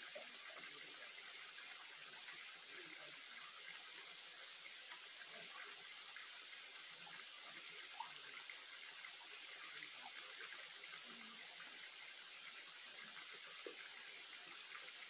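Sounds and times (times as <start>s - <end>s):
high-pitched insect chorus: 0.0s - 15.0s
stream running: 0.0s - 15.0s.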